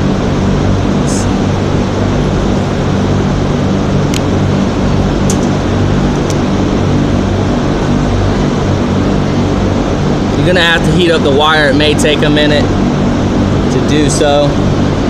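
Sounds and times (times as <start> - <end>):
heat gun fan humming: 0.0 - 15.0.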